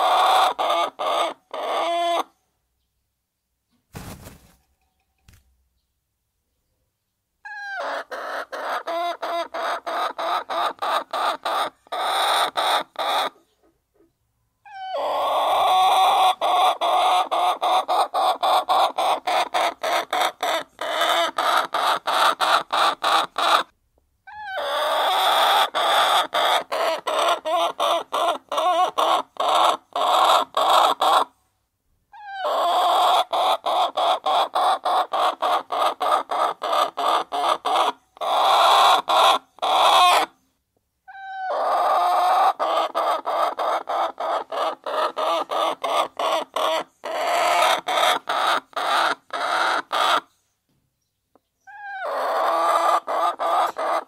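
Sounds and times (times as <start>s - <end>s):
hens clucking: 0.0s - 2.3s, 7.5s - 23.7s, 24.4s - 31.3s, 32.2s - 40.3s, 41.1s - 50.3s, 51.7s - 54.0s.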